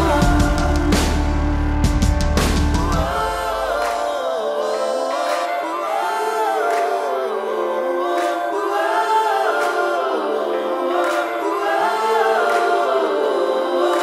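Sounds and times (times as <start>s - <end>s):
choir singing held notes: 0.0s - 14.0s.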